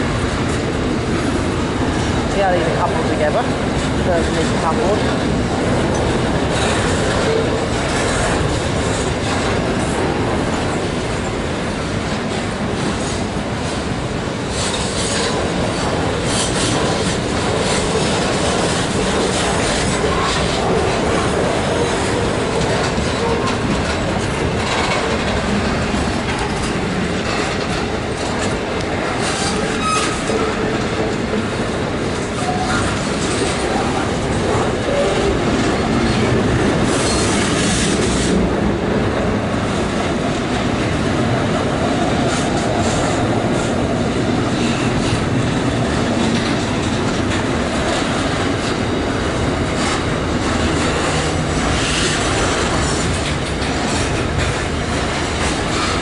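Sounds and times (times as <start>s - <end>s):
train wheels rumbling on rail: 0.0s - 56.0s
wheels clacking over rail joints: 0.0s - 56.0s.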